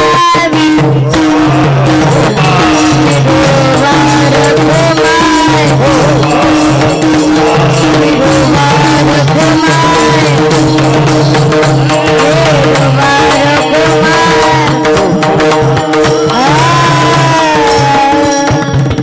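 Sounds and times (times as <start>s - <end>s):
hand percussion clatter: 0.0s - 19.0s
steady held drone: 1.6s - 18.4s.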